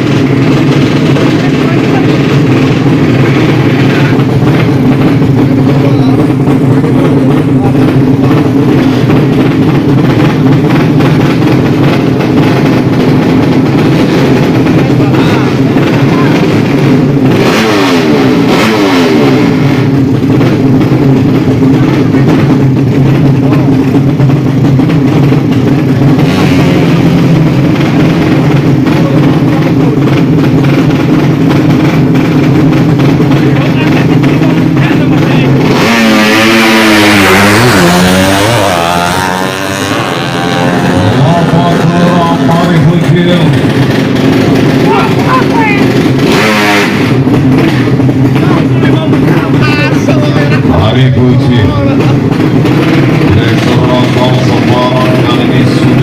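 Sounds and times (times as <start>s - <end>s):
motorcycle engines running loudly: 0.0s - 56.0s.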